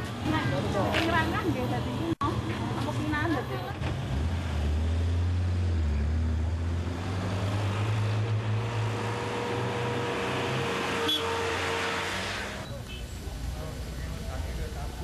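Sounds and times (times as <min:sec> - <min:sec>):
motorcycles passing: 0:00.0 - 0:12.8
road traffic engines passing: 0:00.0 - 0:15.0.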